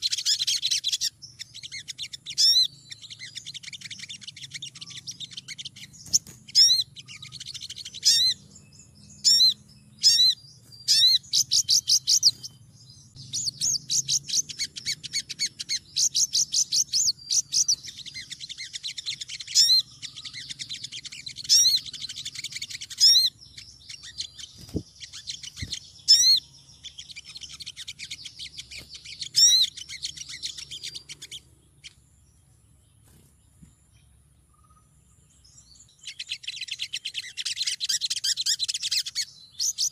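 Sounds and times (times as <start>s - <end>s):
bird sharp rising calls: 0.0s - 32.0s
rapid high bird twittering: 0.0s - 39.9s.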